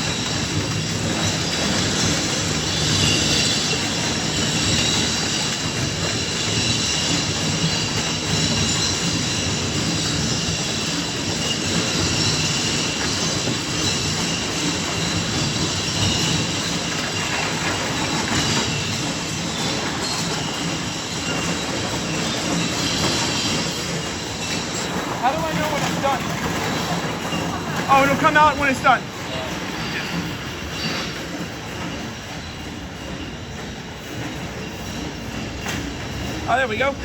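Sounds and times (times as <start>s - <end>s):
machine conveyor rattling and whining: 0.0s - 37.0s.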